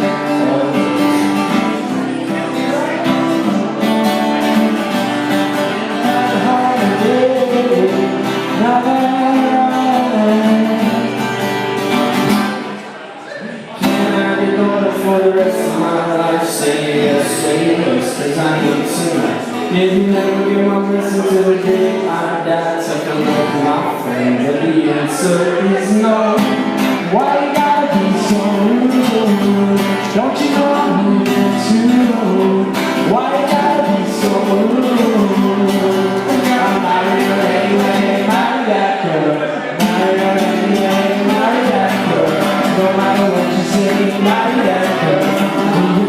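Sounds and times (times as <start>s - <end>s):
man singing: 0.0s - 12.6s, 13.5s - 46.0s
strummed acoustic guitar: 0.0s - 46.0s.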